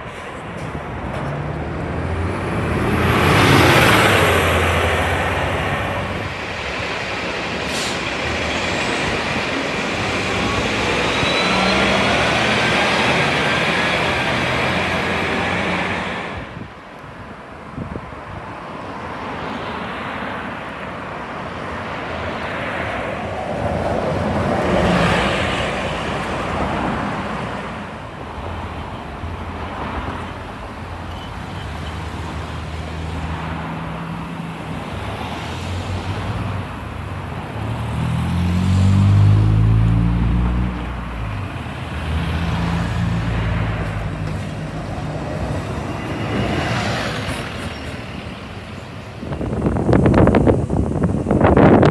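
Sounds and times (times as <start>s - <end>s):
bus engine accelerating: 0.0s - 16.9s, 22.2s - 51.9s
cars going by: 0.0s - 51.9s.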